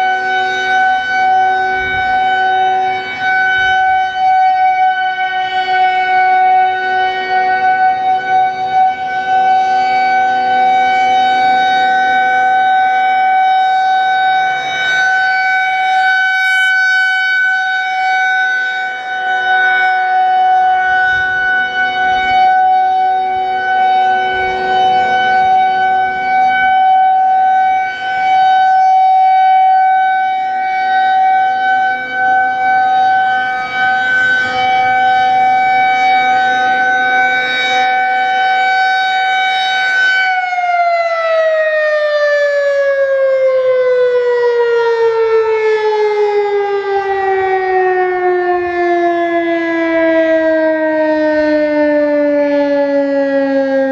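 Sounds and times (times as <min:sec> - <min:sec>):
siren winding down: 0:00.0 - 0:53.9
warning siren steady tone: 0:00.0 - 0:53.9.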